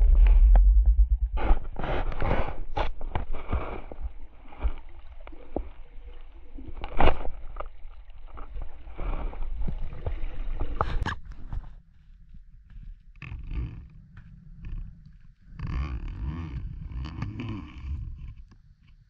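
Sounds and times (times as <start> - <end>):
water sloshing and gurgling: 0.0 - 18.5.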